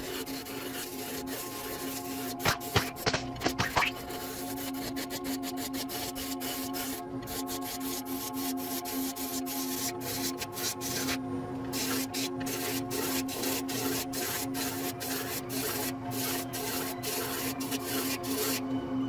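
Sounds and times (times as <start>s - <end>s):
turning tool scraping wood: 0.0s - 11.2s, 11.8s - 18.6s.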